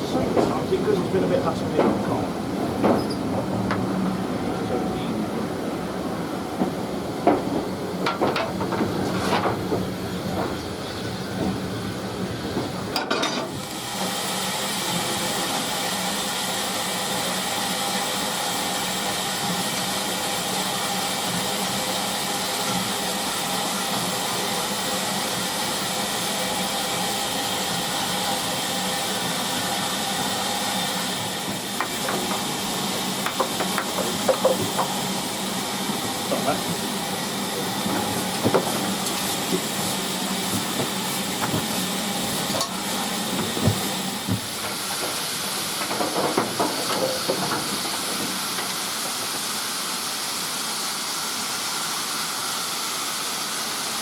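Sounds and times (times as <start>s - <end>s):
steam locomotive hissing: 0.0s - 54.0s.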